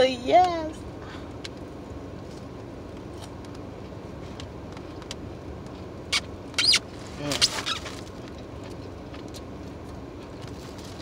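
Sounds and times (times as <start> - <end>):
steady hum inside a car: 0.0 - 11.0.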